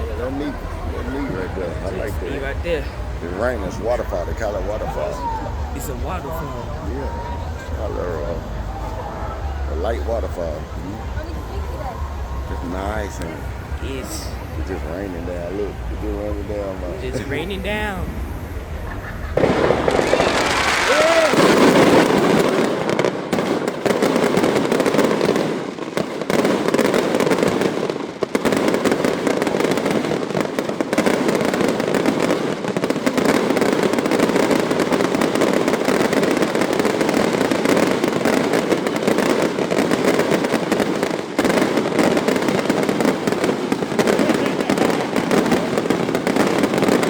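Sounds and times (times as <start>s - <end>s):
fireworks crackling: 0.0s - 47.0s.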